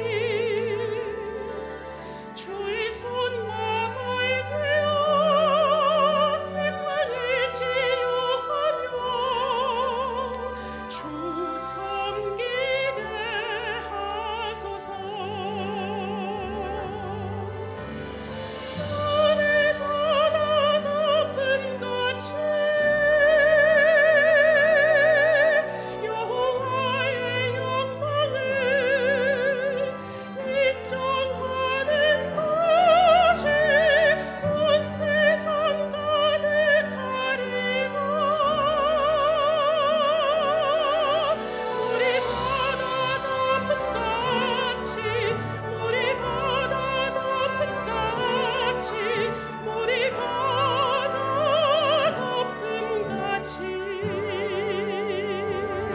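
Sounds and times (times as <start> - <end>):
instrumental accompaniment: 0.0 - 55.9
soprano singing: 0.0 - 55.9.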